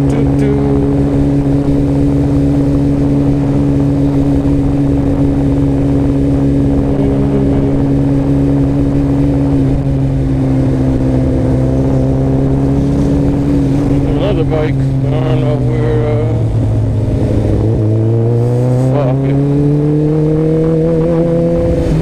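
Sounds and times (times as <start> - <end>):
low rumble on microphone: 0.0 - 22.0
motorcycle engine running: 0.0 - 22.0.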